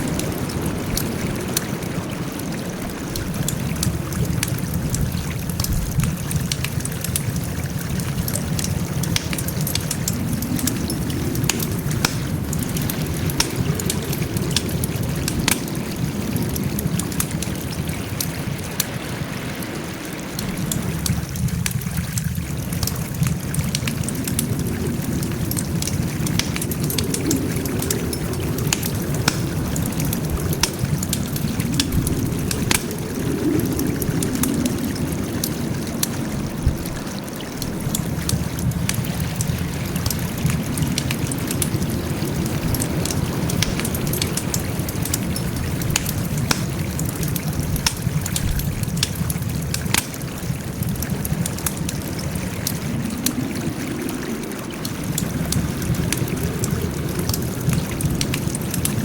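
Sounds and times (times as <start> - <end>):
burning wood crackling: 0.0 - 59.0
fire flames rushing: 0.0 - 59.0.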